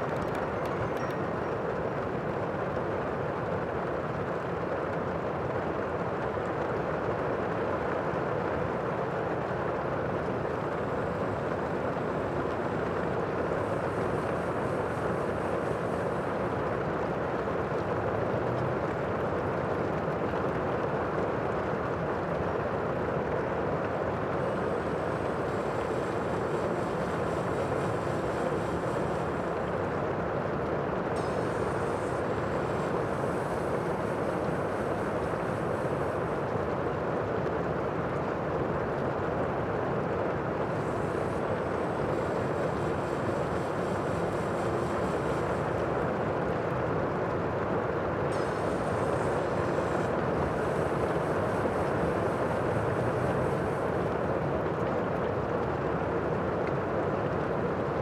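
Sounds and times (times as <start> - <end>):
wind: 0.0 - 58.0.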